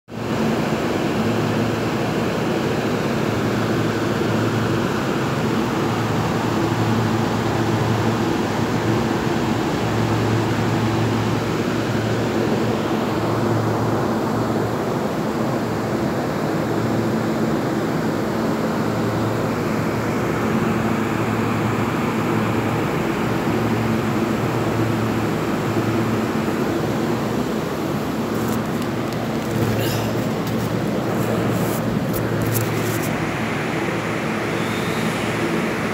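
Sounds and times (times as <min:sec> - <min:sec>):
fans rushing air with low hum: 0:00.1 - 0:35.9.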